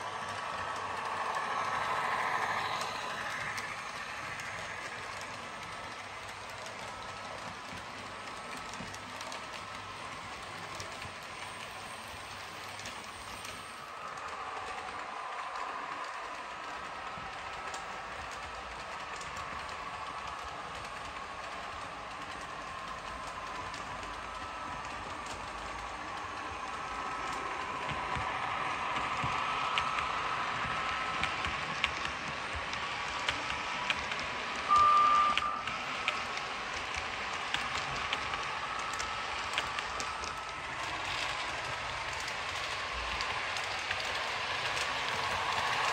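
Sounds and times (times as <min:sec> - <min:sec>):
model train motor whine: 0:00.0 - 0:45.9.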